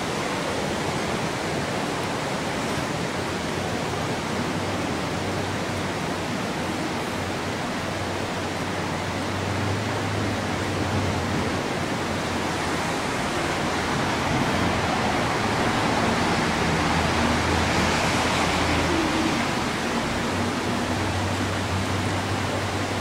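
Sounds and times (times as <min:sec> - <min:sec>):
creek water rushing: 0:00.0 - 0:23.0.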